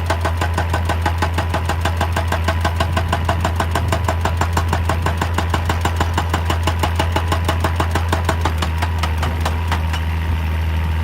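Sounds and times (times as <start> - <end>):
hydraulic breaker hammering rock: 0.0 - 10.4
diesel engine drone: 0.0 - 11.0.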